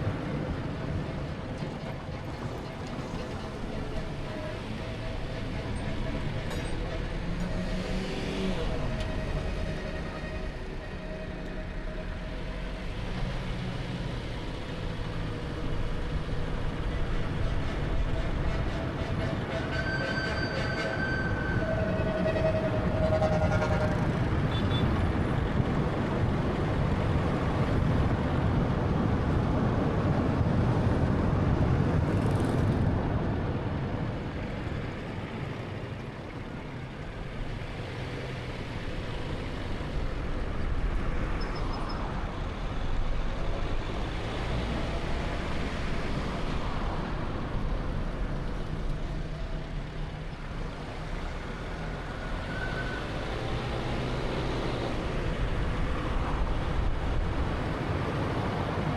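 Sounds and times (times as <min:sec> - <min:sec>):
car road and engine noise: 0:00.0 - 0:58.9.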